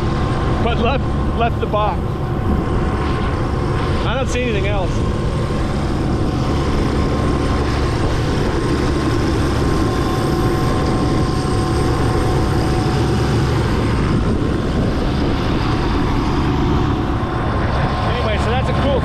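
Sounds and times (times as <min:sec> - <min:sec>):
helicopter rotor throb: 0:00.0 - 0:19.0
helicopter turbine whine: 0:00.0 - 0:19.0.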